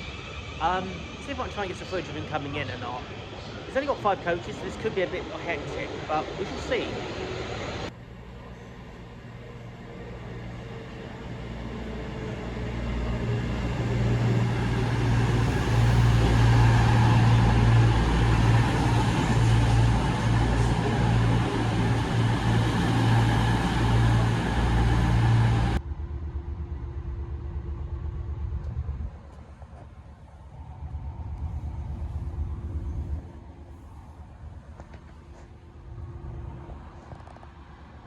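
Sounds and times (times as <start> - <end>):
diesel train engine drone: 0.0 - 38.0.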